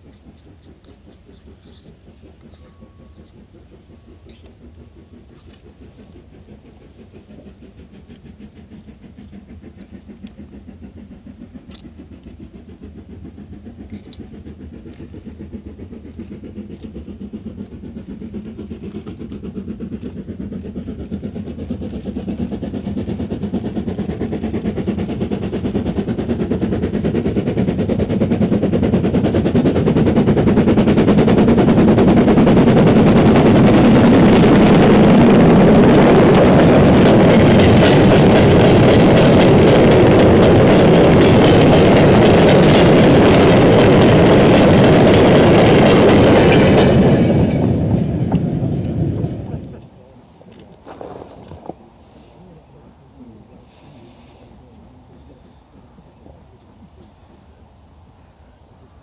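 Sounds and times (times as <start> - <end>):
steam locomotive exhaust beats: 0.0 - 59.0.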